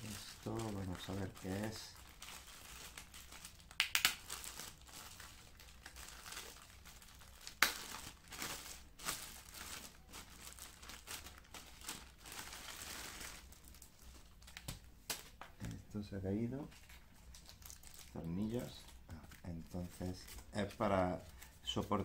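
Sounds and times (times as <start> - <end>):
plastic bag crinkling: 0.0 - 15.3, 16.6 - 22.0.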